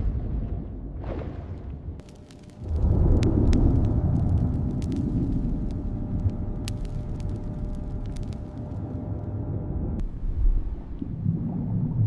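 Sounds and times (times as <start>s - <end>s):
low underwater rumble: 0.0s - 12.0s.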